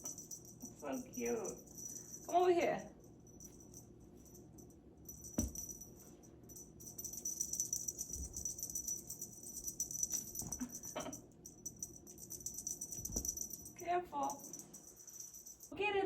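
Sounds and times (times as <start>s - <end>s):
small bell jingling: 0.0s - 16.0s.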